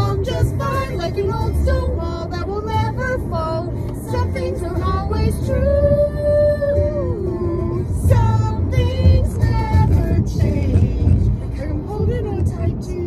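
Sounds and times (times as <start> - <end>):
car hum on the road: 0.0 - 13.0
recorded song: 0.0 - 13.0
woman singing: 0.0 - 13.0.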